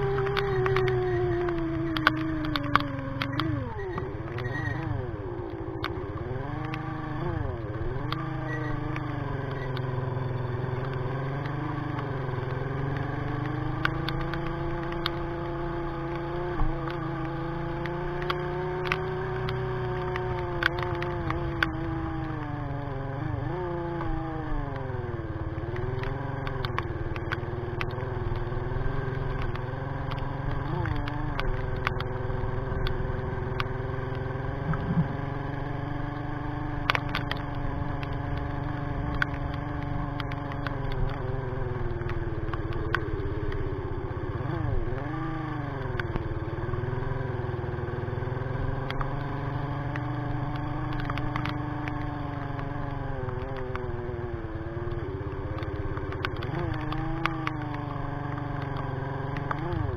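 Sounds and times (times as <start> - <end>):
motorcycle engine revving: 0.0 - 59.9
sharp ticks: 0.0 - 59.9.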